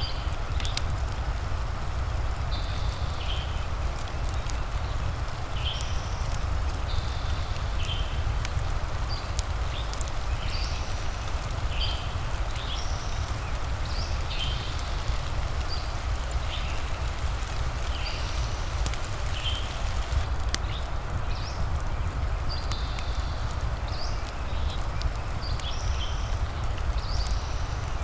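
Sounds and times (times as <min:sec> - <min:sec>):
steady rain: 0:00.0 - 0:28.0
faint crackling ticks: 0:00.2 - 0:28.0.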